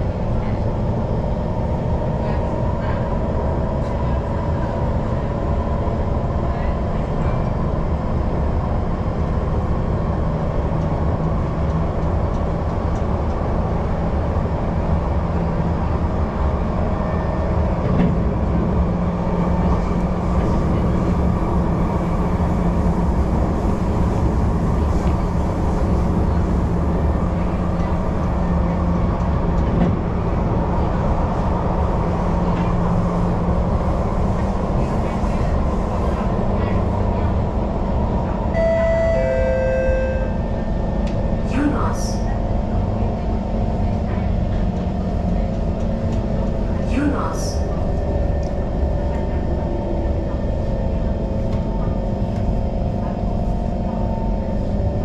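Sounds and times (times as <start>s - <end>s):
train wheels rumbling on rails: 0.0s - 39.2s, 40.3s - 55.0s
steady train hum: 0.0s - 55.0s.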